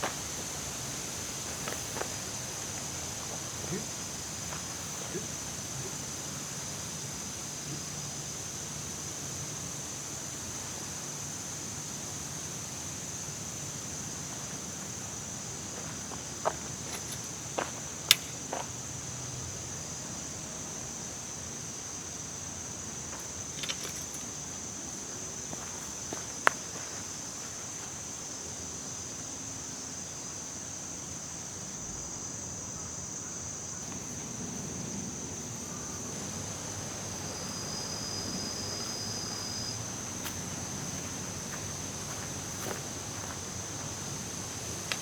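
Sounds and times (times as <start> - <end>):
insect chorus chirring: 0.0 - 45.0.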